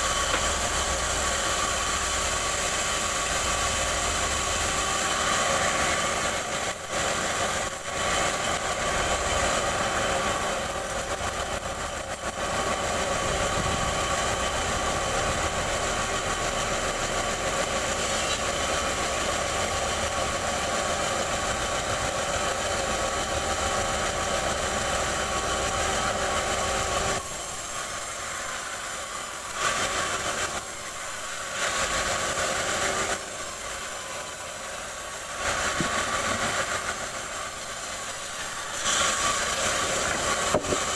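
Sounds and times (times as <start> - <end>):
band sawmill drone: 0.0 - 40.9.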